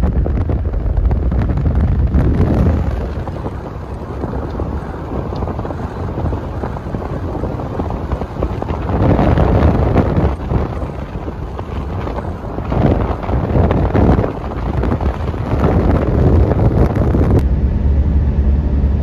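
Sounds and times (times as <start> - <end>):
car driving rumble: 0.0 - 19.0
wind buffeting microphone: 0.0 - 19.0.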